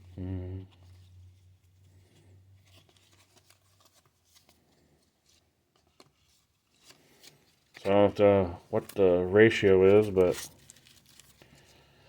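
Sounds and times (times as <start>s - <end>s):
trading cards being handled: 0.7s - 11.9s.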